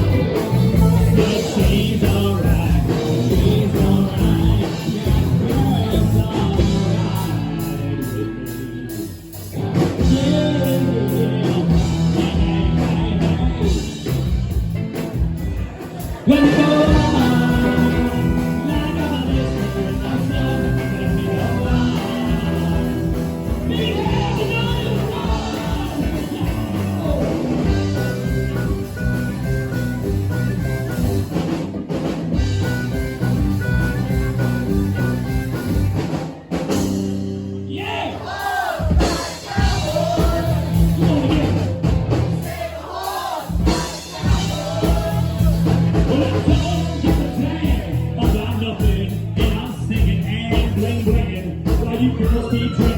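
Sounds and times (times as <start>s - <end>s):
person singing: 0.0s - 14.2s, 15.9s - 31.3s, 37.7s - 41.8s, 42.4s - 52.9s
bluesy rock band playing: 0.0s - 52.9s.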